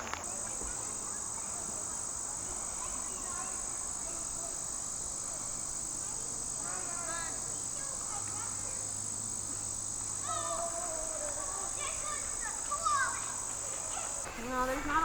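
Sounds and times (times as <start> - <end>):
faint people talking: 0.0 - 15.0
insect chorus shrilling: 0.0 - 15.0.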